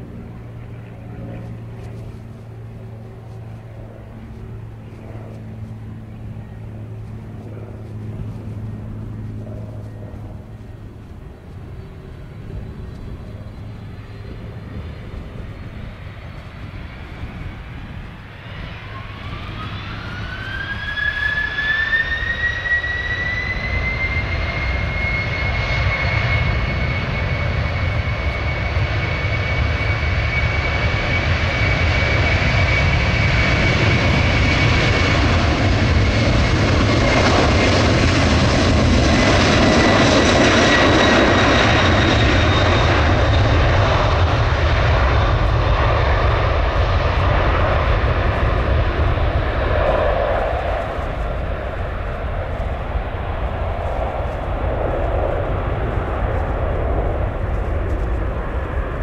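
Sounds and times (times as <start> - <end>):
deep jet engine rumble: 0.0 - 59.0
jet engine whine: 0.0 - 59.0.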